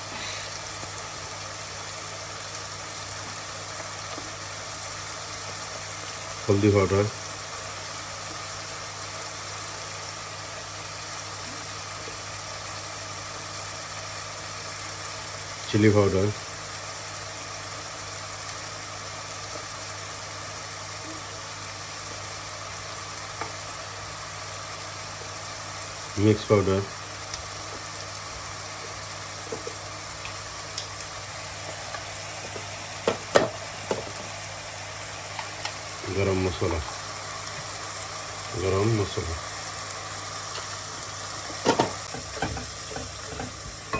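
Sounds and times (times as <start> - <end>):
even hiss: 0.0 - 7.5, 15.6 - 43.9
chicken sizzling in hot oil: 0.0 - 43.9.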